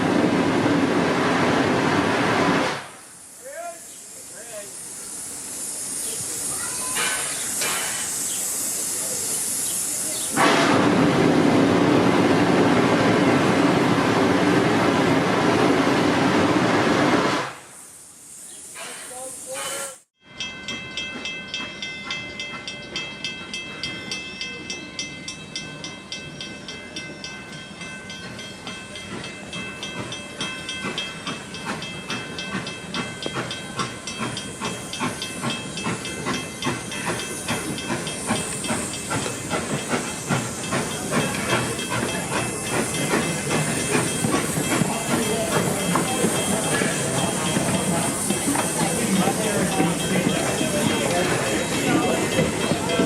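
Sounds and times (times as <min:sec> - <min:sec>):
steam hissing: 0:00.0 - 0:20.1, 0:28.2 - 0:53.0
steam locomotive running: 0:00.0 - 0:53.0.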